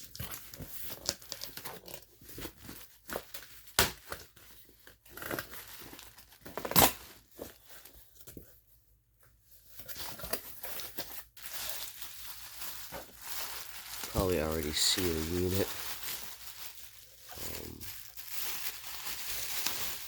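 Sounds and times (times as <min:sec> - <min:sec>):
packaging crinkling and ripping: 0:00.0 - 0:08.4, 0:09.7 - 0:20.0.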